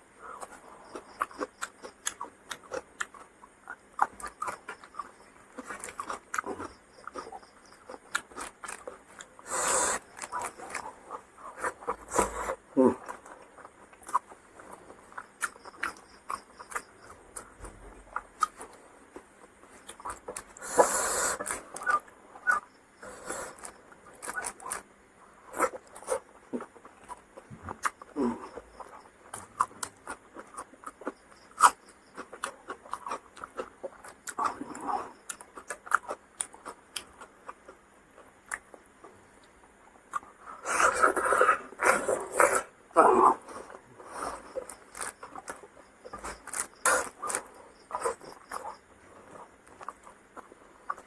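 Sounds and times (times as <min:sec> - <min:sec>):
person chewing and smacking food: 0:00.3 - 0:51.0.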